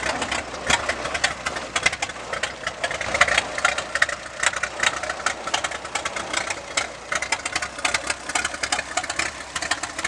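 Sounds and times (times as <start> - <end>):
tractor engine running slowly: 0.0 - 10.0.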